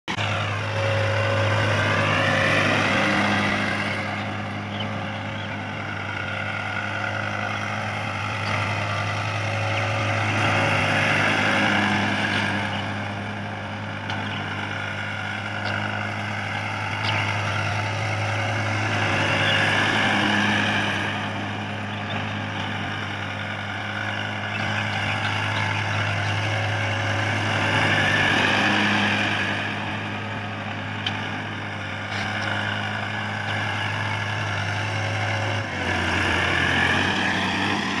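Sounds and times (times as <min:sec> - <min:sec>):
tractor diesel engine running: 0:00.1 - 0:38.0.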